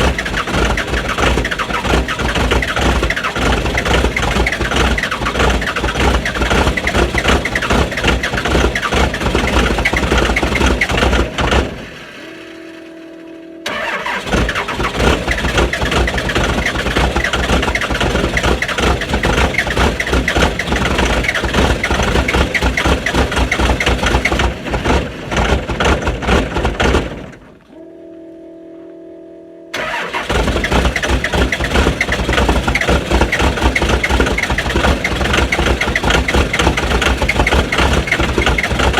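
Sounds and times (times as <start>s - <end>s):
diesel engine clattering: 0.0s - 27.5s, 29.8s - 38.9s.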